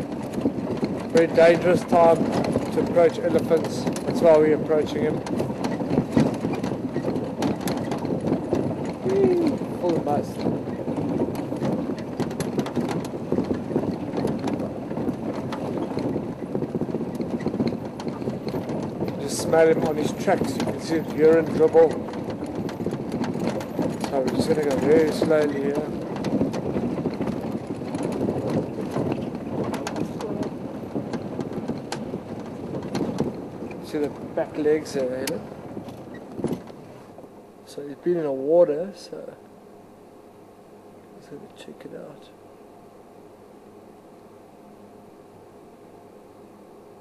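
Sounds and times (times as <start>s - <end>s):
vehicle rattling over rough ground: 0.0s - 39.4s
wind noise on microphone: 0.0s - 39.4s.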